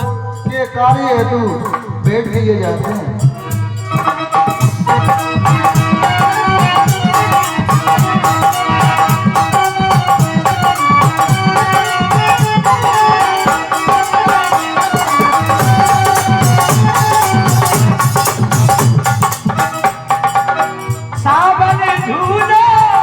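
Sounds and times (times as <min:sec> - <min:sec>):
hand drum beat: 0:00.0 - 0:23.0
sustained melodic line: 0:00.0 - 0:23.0.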